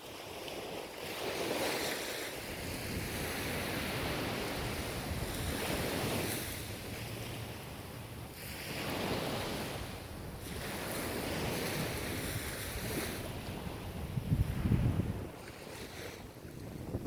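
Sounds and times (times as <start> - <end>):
ocean waves washing onto shore: 0.0 - 17.0
wind buffeting microphone: 0.6 - 17.0.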